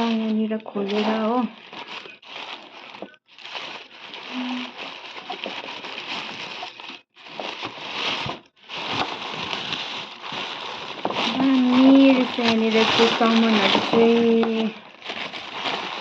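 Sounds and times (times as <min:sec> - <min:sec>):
wrapping paper crinkling: 0:00.0 - 0:16.0.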